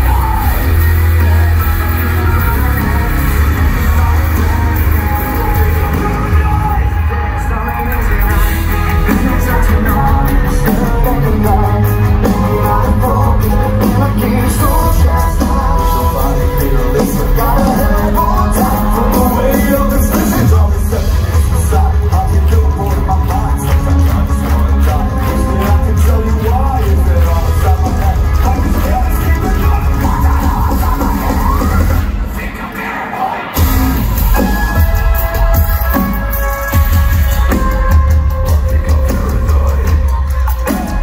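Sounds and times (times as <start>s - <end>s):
live metal band playing: 0.0s - 41.0s.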